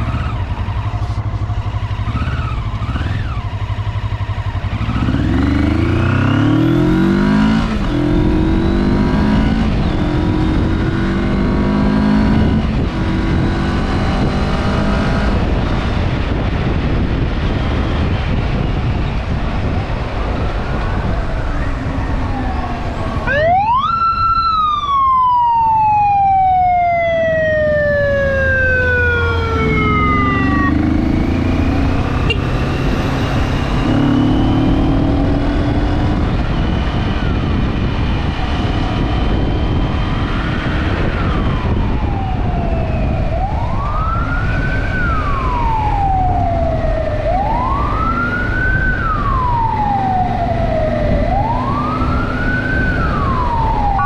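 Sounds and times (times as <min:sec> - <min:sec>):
engine and road rumble: 0:00.0 - 0:54.0
fire truck siren wailing: 0:04.3 - 0:54.0.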